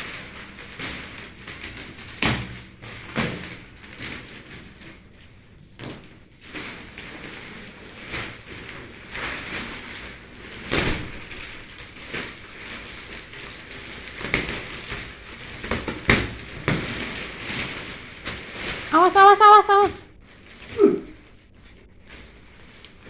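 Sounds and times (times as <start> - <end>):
plastic wrapping crinkling: 0.0 - 23.0.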